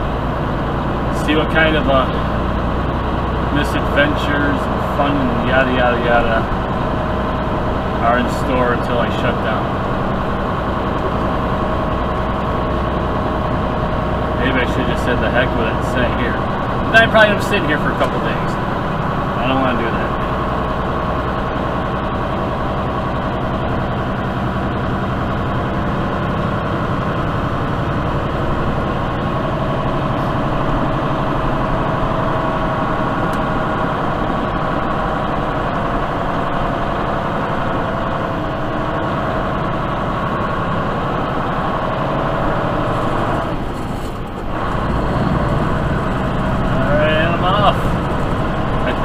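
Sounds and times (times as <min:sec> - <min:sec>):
truck diesel engine droning: 0:00.0 - 0:49.0.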